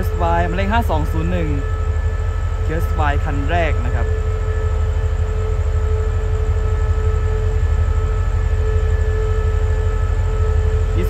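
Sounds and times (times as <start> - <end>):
constant whine: 0.0 - 11.0
diesel train engine idling: 0.0 - 11.0.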